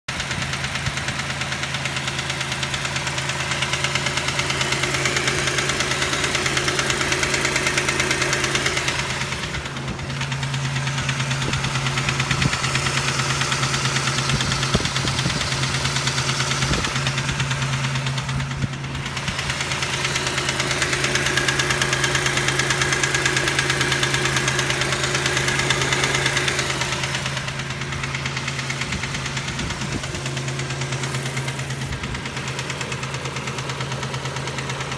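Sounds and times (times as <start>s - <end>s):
engine running with rhythmic knock: 0.1s - 34.9s.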